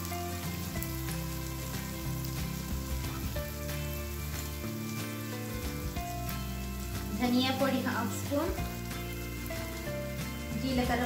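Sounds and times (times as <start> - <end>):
background music with held notes: 0.0 - 11.0
meat sizzling in a frying pan: 0.0 - 11.0.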